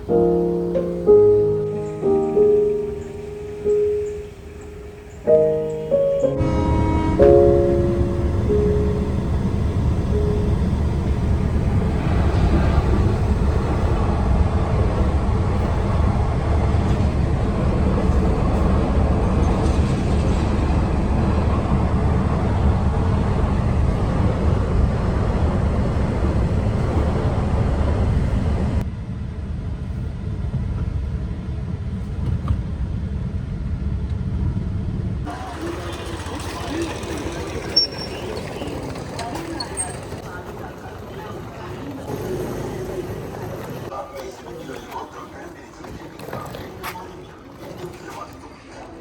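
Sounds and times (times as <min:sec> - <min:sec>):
vehicle road rumble: 0:00.0 - 0:44.0.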